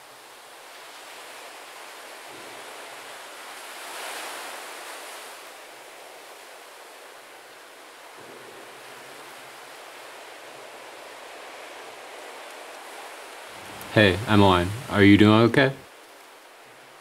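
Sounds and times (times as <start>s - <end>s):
lake water: 0.0s - 17.0s
wind: 0.0s - 17.0s.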